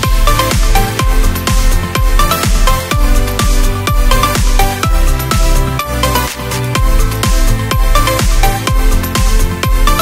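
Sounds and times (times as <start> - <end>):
kick drum: 0.0 - 6.0, 6.8 - 10.0
electronic dance music: 0.0 - 10.0.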